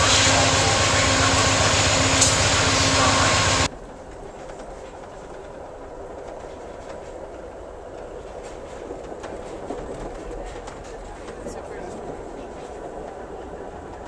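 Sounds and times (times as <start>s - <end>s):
diesel locomotive droning: 0.0s - 14.0s
rumble inside train car: 0.0s - 14.0s.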